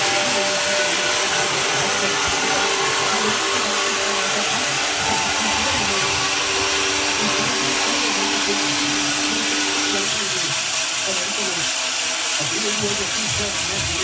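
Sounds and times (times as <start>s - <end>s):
bandsaw mill running: 0.0s - 14.0s.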